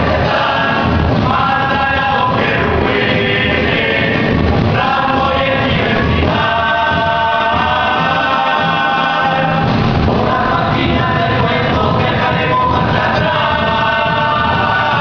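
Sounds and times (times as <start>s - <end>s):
choir singing: 0.0s - 15.0s
low drum beat: 0.0s - 15.0s.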